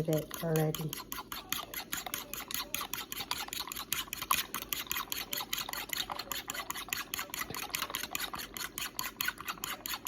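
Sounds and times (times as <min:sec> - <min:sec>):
eggs being beaten in a bowl: 0:00.0 - 0:10.0.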